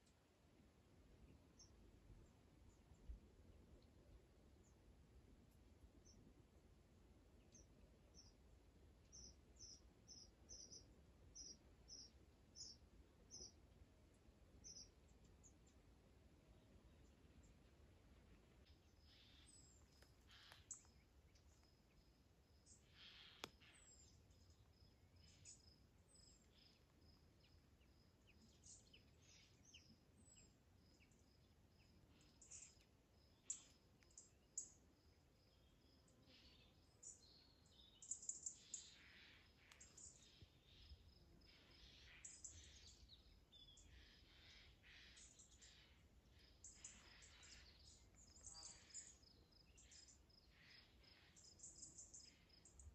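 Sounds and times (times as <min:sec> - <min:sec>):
faint birds chirping: 0:00.0 - 0:52.9.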